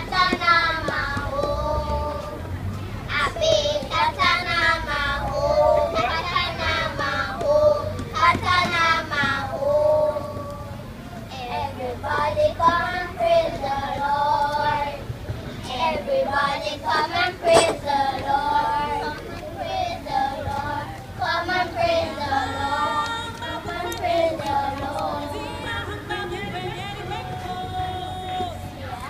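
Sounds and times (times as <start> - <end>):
children singing in unison: 0.0 - 28.7.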